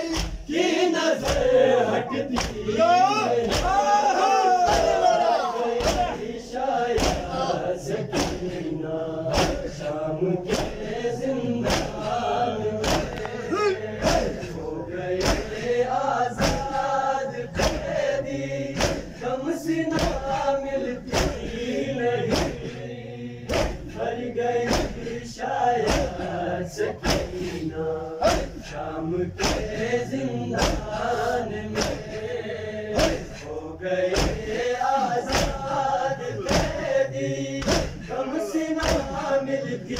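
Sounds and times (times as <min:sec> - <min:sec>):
crowd of men chanting: 0:00.0 - 0:39.9
rhythmic chest-beating strikes: 0:00.0 - 0:39.9.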